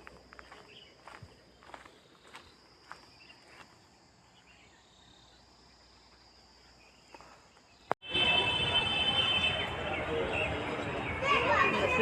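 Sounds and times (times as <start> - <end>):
busy outdoor noise: 0.0 - 12.0.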